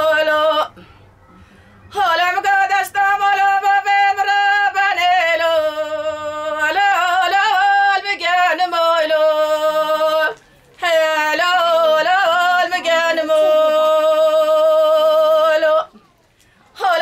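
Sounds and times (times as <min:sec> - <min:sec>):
woman singing unaccompanied: 0:00.0 - 0:00.9, 0:01.9 - 0:16.0, 0:16.7 - 0:17.0.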